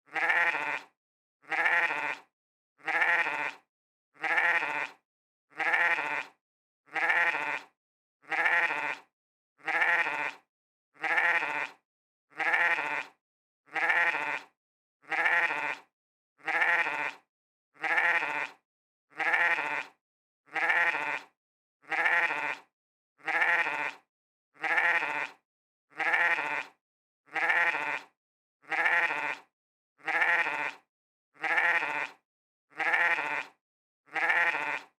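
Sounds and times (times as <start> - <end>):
sheep bleating: 0.1 - 10.4, 11.0 - 24.0, 24.6 - 34.9.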